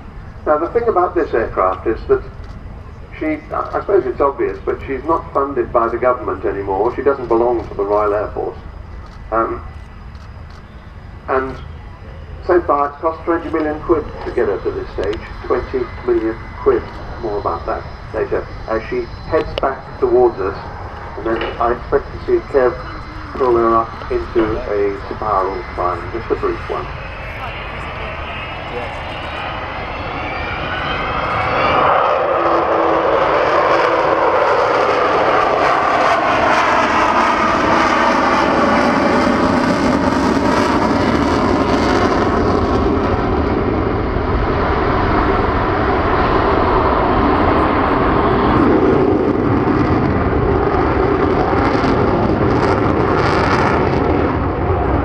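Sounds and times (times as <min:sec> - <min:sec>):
jet aircraft roar flying past: 0:00.0 - 0:55.0.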